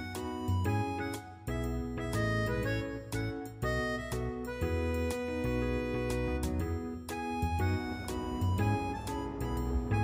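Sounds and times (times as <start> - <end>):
instrumental music with a beat: 0.0 - 10.0.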